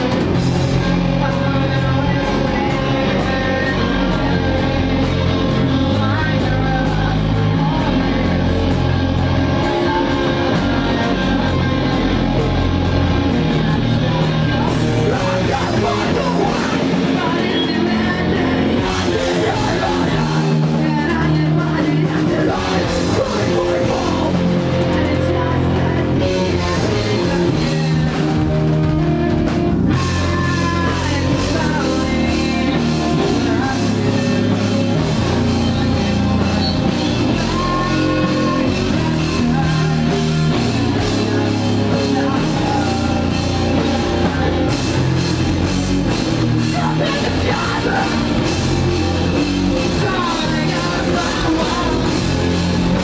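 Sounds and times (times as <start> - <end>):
bass guitar: 0.0 - 53.0
drum kit: 0.0 - 53.0
electric guitars: 0.0 - 53.0.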